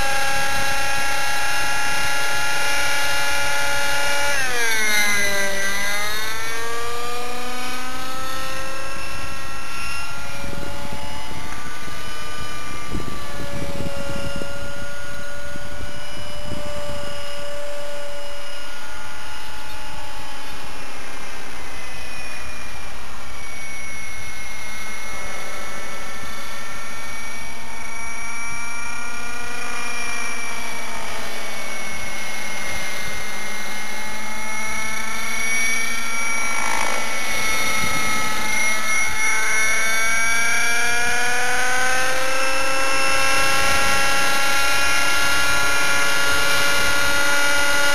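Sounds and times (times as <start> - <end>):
model helicopter engine whine: 0.0 - 47.9.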